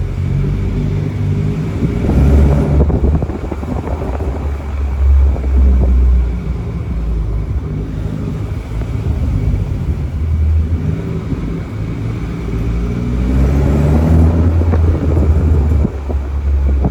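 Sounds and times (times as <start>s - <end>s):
car exhaust rumbling: 0.0s - 16.9s.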